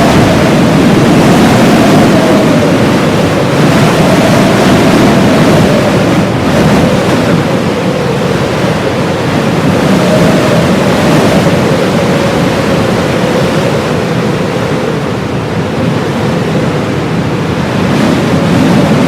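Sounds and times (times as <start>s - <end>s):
blizzard wind with wavering howl: 0.0s - 19.0s.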